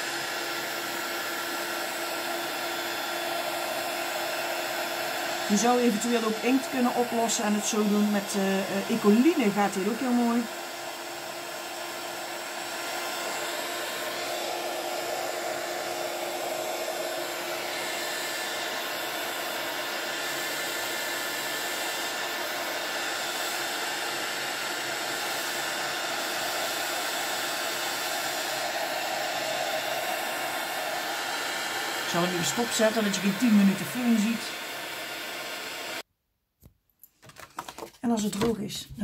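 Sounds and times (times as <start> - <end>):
heat gun blowing air: 0.0 - 36.0.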